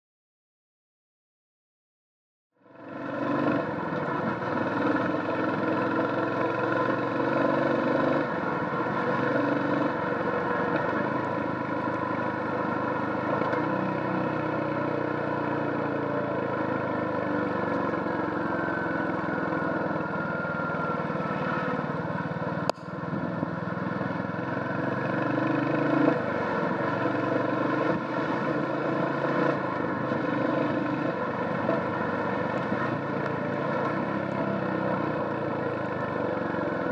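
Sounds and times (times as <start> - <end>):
motorcycle engine revving: 2.6 - 36.9.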